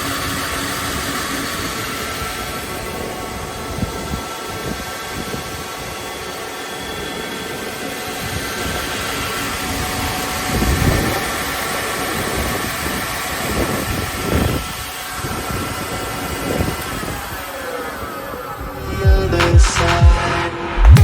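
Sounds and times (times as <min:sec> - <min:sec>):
belt sander running: 0:00.0 - 0:18.7.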